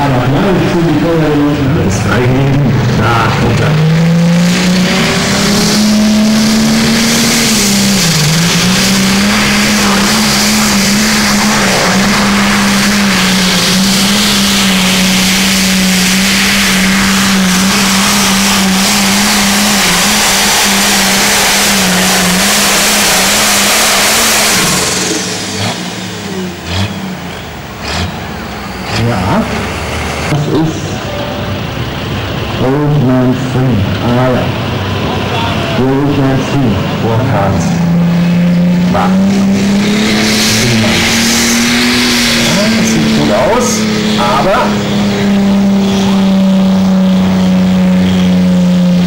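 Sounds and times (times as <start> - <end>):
tractor diesel engine at full throttle: 0.0 - 49.0.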